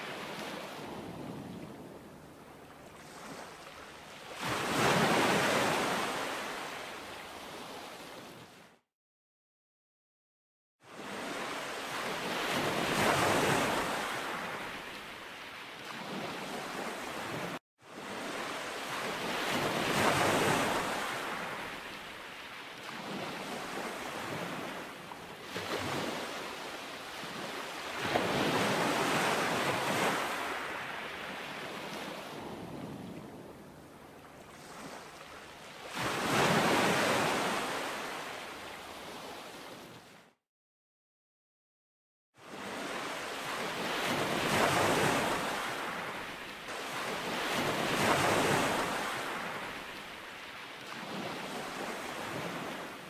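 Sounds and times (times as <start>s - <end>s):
waves breaking on beach: 0.0s - 8.8s, 10.9s - 40.3s, 42.4s - 53.0s.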